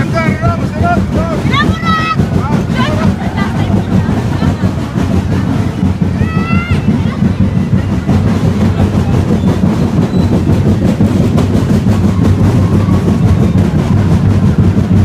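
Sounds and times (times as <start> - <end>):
drum band beating fast rhythm: 0.0 - 15.0.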